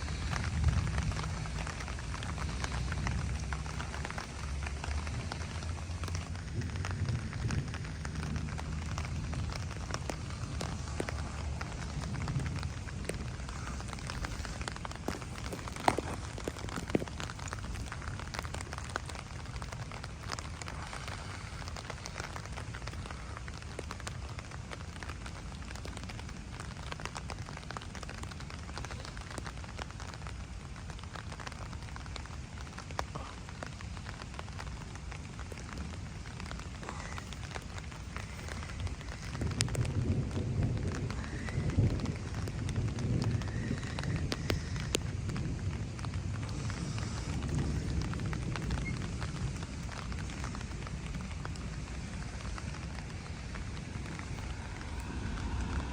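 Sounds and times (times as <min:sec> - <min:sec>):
deep rumble: 0:00.0 - 0:55.9
heavy rain falling: 0:00.0 - 0:55.9.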